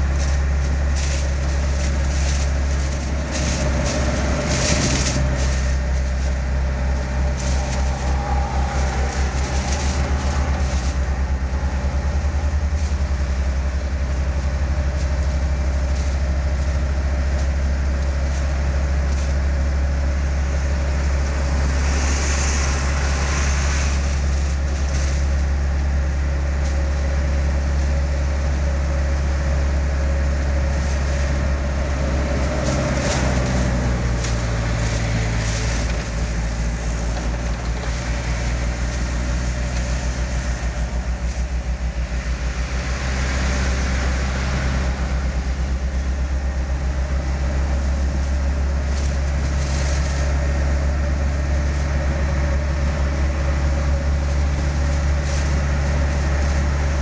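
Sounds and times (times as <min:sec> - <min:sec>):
engine and road drone: 0:00.0 - 0:57.0
faint steady whine: 0:00.0 - 0:57.0.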